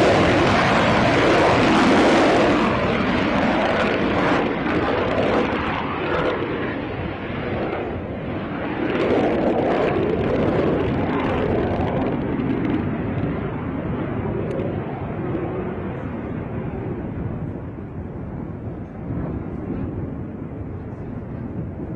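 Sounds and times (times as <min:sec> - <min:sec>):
jet engines rushing: 0:00.0 - 0:21.9.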